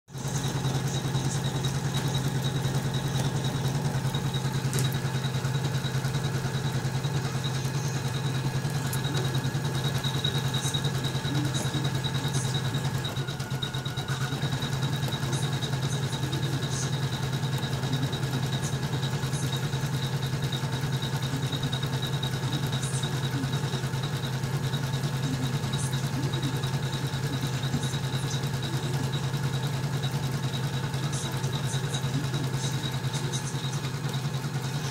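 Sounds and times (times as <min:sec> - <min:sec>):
embroidery machine needle clatter: 0:00.2 - 0:34.9.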